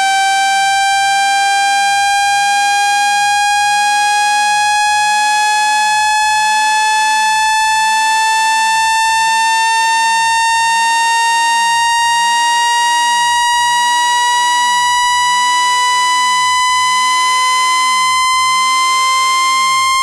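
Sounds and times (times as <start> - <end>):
buzzy synthesized tone rising: 0.0 - 20.0.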